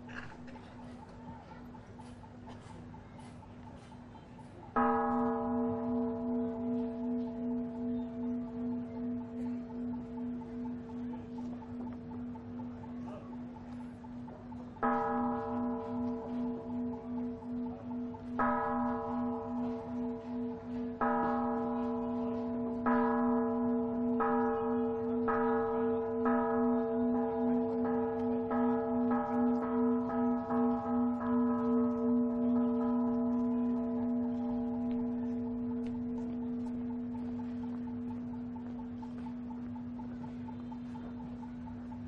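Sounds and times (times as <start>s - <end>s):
large bell ringing: 4.7s - 42.0s.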